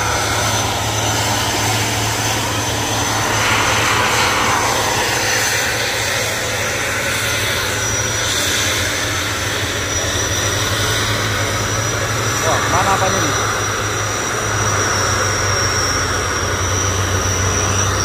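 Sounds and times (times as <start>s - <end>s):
heavy truck diesel engines: 0.0s - 18.0s.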